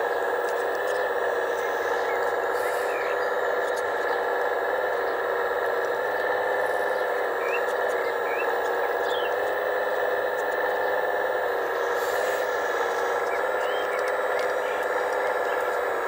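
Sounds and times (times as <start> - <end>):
electric pump whine: 0.0 - 16.0.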